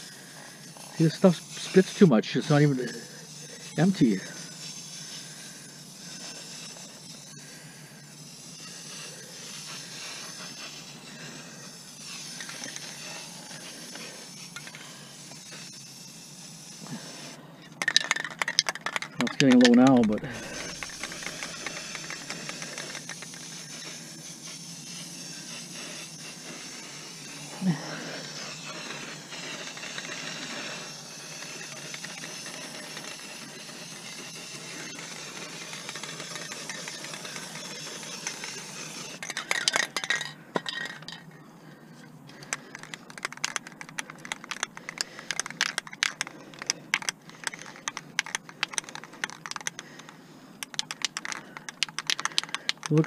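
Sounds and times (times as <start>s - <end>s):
spray can rattling when shaken: 0.0s - 41.3s, 42.3s - 53.0s
spray paint can hissing: 0.0s - 41.3s, 42.3s - 53.0s.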